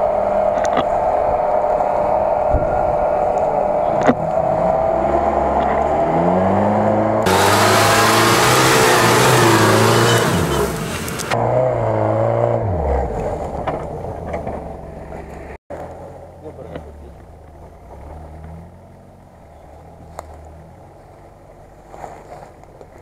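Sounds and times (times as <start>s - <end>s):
jeep engine revving: 0.0s - 22.0s.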